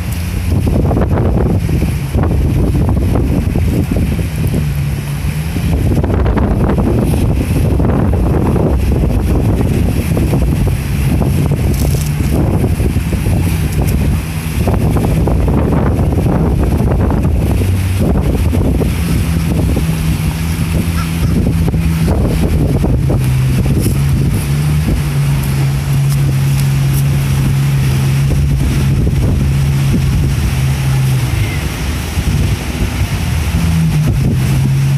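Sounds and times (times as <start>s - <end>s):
boat engine droning: 0.0s - 34.9s
wind buffeting microphone: 0.0s - 34.9s.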